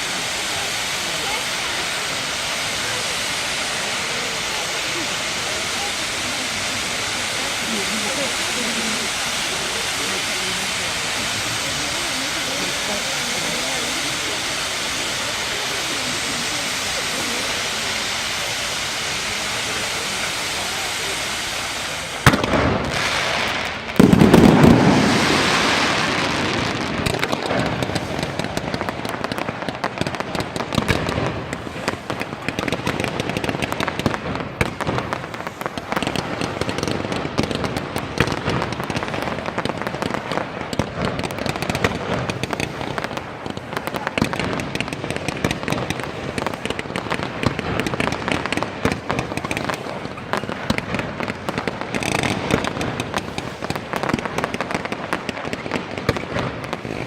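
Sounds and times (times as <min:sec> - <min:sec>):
heavy firework bang: 0:00.0 - 0:57.0
rapid firework pops and bangs: 0:00.0 - 0:57.0.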